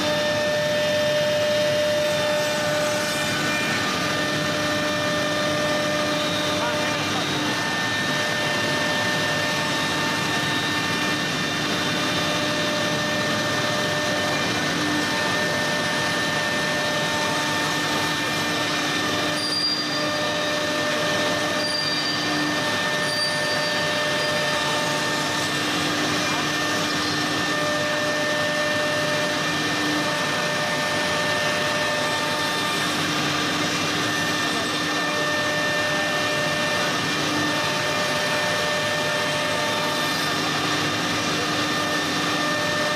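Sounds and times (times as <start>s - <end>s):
cnc router machining: 0.0s - 42.9s
spindle motor whine: 0.0s - 42.9s.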